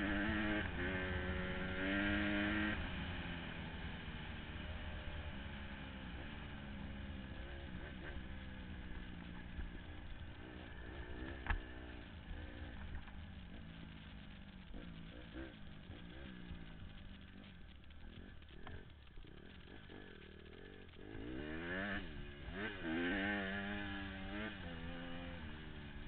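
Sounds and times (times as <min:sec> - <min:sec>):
dirt bike engine revving: 0:00.0 - 0:03.4, 0:05.3 - 0:26.0.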